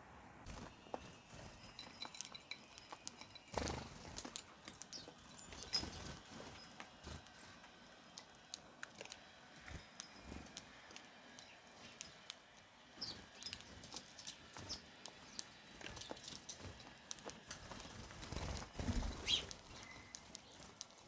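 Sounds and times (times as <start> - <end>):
bird chirps: 0.5 - 8.6, 9.6 - 17.2, 17.8 - 20.9
birds pecking taps: 0.5 - 21.0.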